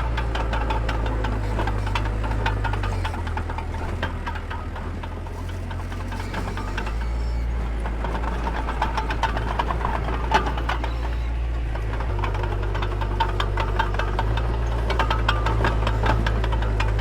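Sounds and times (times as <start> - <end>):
heavy machine engine droning: 0.0 - 17.0
metallic clanks and rattles: 0.0 - 17.0.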